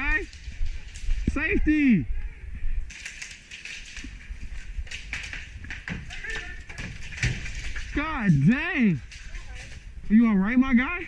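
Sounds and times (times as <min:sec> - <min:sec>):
steady outdoor noise: 0:00.0 - 0:11.0.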